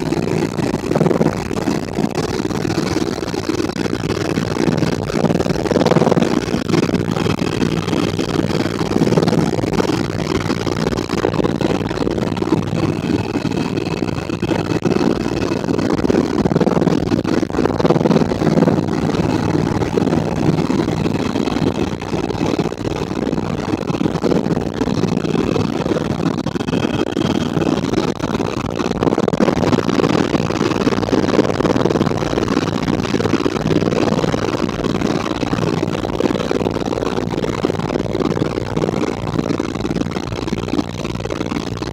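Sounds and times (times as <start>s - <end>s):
helicopter rotor drone: 0.0s - 41.9s
turbine whine: 0.0s - 41.9s.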